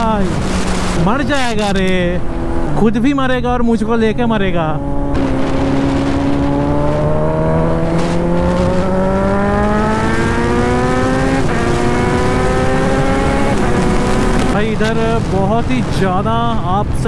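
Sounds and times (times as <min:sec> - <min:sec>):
wind rush: 0:00.0 - 0:02.8, 0:04.1 - 0:17.0
motorcycle engine accelerating: 0:00.0 - 0:03.0, 0:03.9 - 0:15.9.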